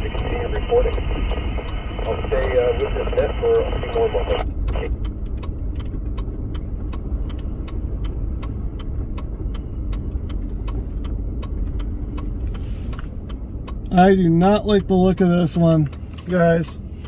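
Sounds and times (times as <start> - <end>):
light regular ticking: 0.0 - 17.0
road and engine rumble: 0.0 - 17.0.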